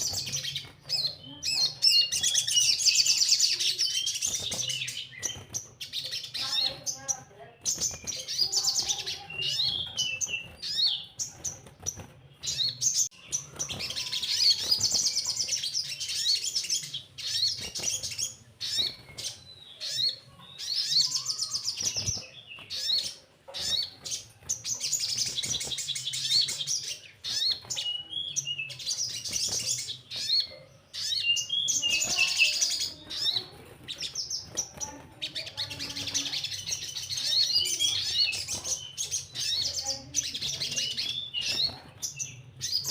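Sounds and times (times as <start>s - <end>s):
sharp bird chips: 0.0s - 42.9s.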